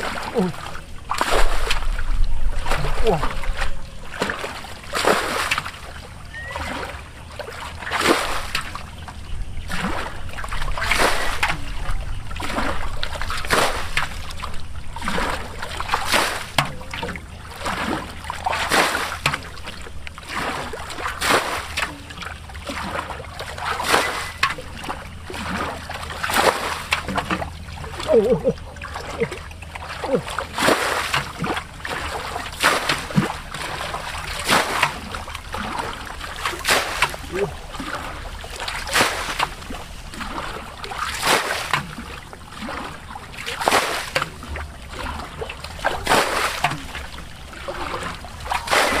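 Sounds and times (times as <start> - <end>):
water splashing and sloshing: 0.0 - 49.0.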